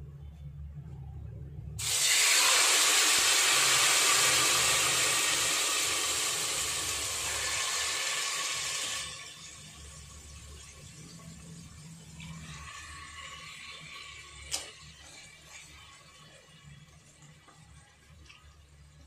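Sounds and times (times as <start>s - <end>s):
food sizzling in hot oil: 1.8s - 17.8s.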